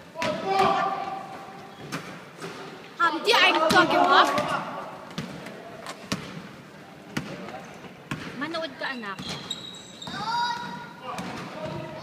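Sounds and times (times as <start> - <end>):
low hall noise: 0.0 - 12.0.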